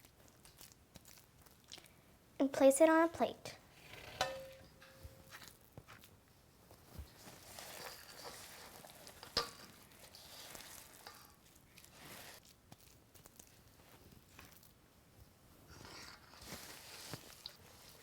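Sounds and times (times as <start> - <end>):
hands rolling sticky mixture: 0.0 - 3.3, 4.2 - 18.0.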